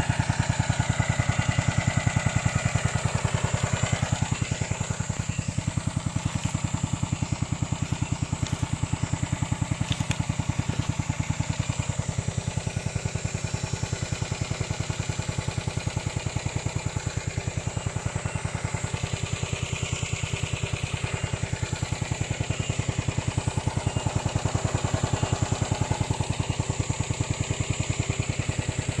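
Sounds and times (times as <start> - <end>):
small petrol engine running: 0.0 - 29.0.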